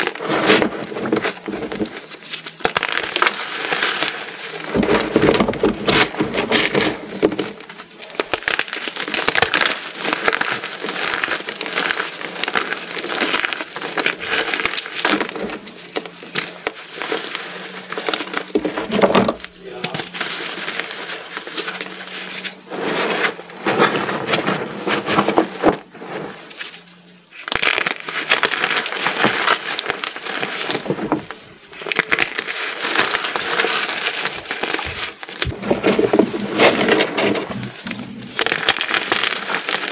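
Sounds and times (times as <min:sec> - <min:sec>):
gym chalk crunching: 0:00.0 - 0:39.9.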